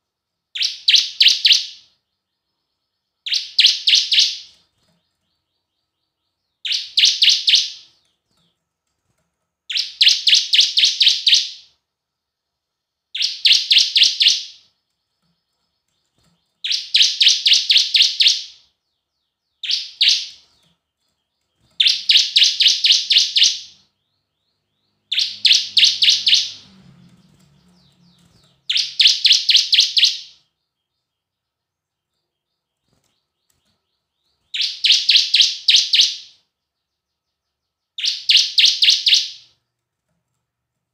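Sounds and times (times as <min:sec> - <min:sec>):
bird singing rapid sharp chirps: 0:00.6 - 0:08.2, 0:09.7 - 0:11.8, 0:13.1 - 0:39.6.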